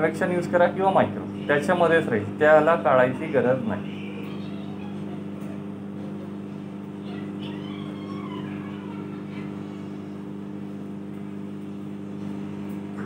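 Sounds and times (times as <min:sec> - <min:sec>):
cooling fan: 0:00.0 - 0:13.0
microwave oven humming: 0:00.0 - 0:13.0.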